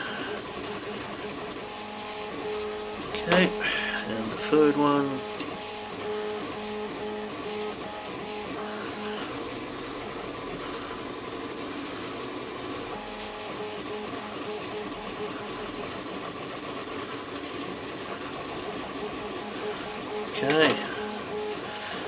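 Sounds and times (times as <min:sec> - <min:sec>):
stepper motors humming: 0:00.0 - 0:22.0.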